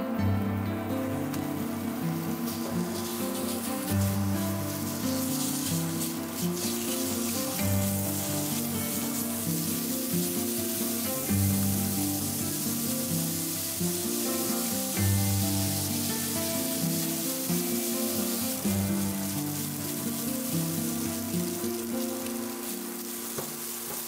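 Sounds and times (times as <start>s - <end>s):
background music: 0.0s - 24.0s
meat and onion sizzling in a pan: 1.0s - 24.0s
spatula stirring: 2.1s - 24.0s.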